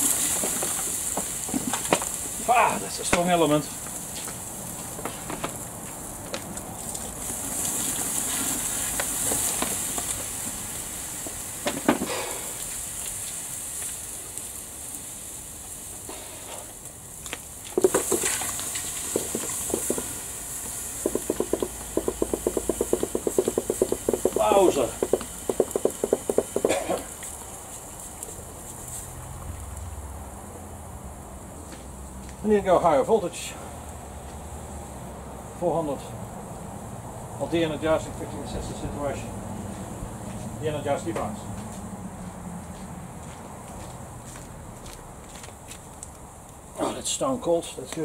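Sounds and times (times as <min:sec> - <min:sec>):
high sizzling hiss: 0:00.0 - 0:41.2
burning food crackling: 0:00.0 - 0:48.0.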